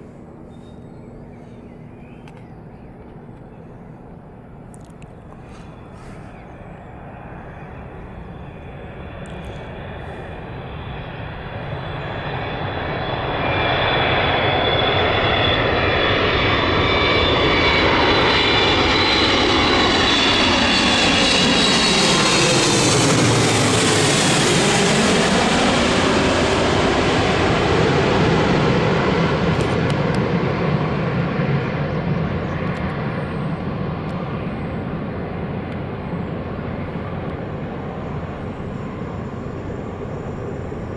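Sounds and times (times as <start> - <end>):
jet fan whine: 0.0 - 40.9
jet rumble: 0.0 - 40.9.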